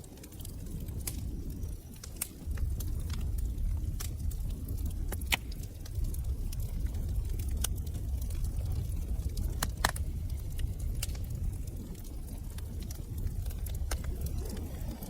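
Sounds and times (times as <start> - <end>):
fire burning low rumble: 0.0 - 15.0
fire popping and crackling: 0.0 - 15.0.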